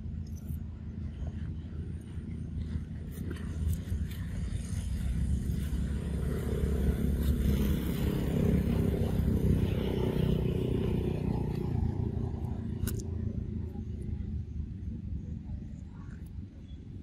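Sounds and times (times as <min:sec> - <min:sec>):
vehicle engine running: 0:00.0 - 0:15.9.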